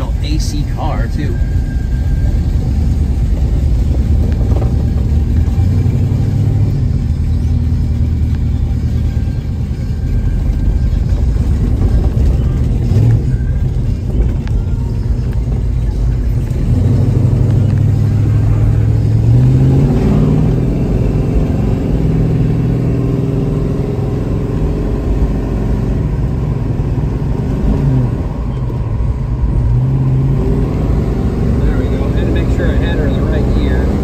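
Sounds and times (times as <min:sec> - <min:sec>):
car engine accelerating: 0:00.0 - 0:34.0
road rumble: 0:00.0 - 0:34.0.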